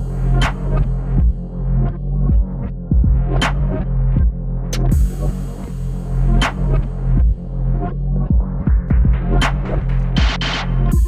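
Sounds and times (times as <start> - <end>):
electronic beat with heavy bass: 0.0 - 11.0.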